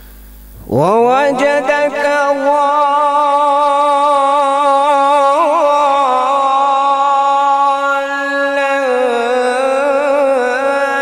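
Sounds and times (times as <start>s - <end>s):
man reciting melodically: 0.6s - 11.0s.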